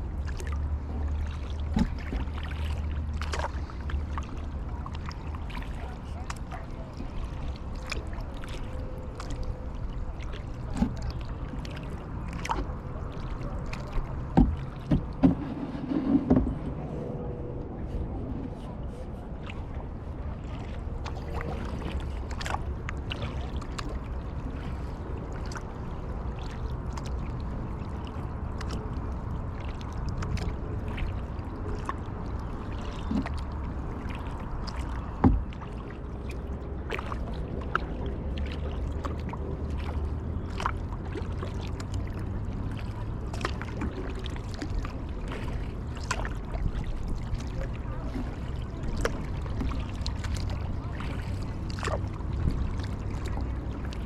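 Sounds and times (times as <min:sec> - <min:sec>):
low steady rumble: 0:00.0 - 0:54.0
paddle splashing in water: 0:00.0 - 0:54.0.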